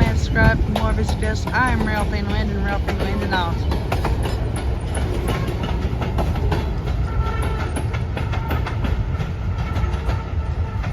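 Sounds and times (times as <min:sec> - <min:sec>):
freight train rumbling past: 0:00.0 - 0:10.9
wheels clicking over rail joints: 0:00.0 - 0:10.9.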